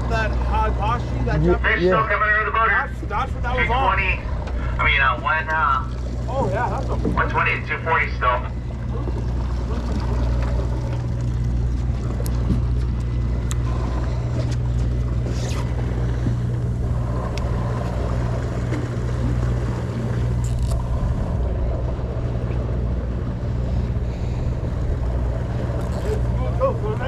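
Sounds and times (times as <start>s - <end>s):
engine room hum: 0.0s - 27.0s
water noise: 0.0s - 27.0s
wind: 0.0s - 27.0s.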